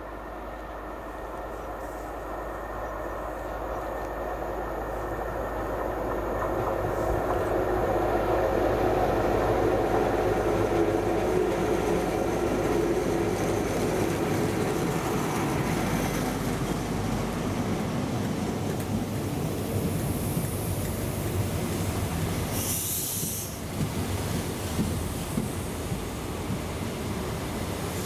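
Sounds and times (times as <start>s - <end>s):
diesel train passing: 0.0s - 28.0s.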